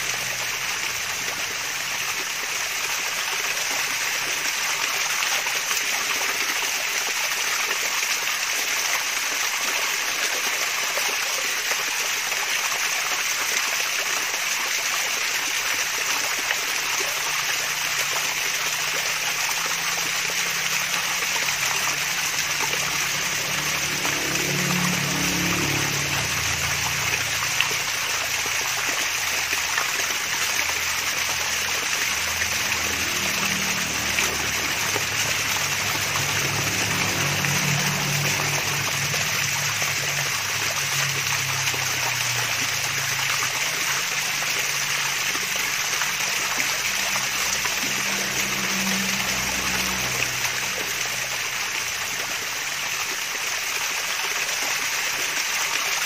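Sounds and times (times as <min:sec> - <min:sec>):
soft low water gurgle: 0:00.0 - 0:56.0
water splashing over waterfall: 0:00.0 - 0:56.0.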